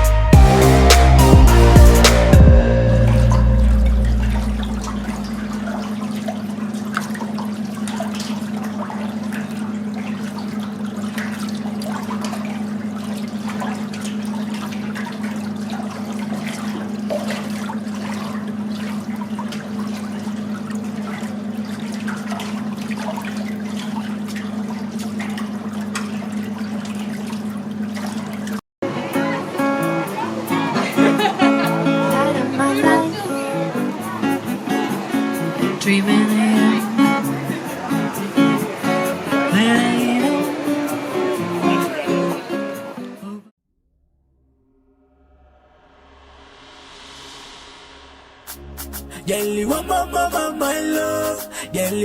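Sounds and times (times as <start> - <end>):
running water splashing and gurgling: 0.5 - 43.1.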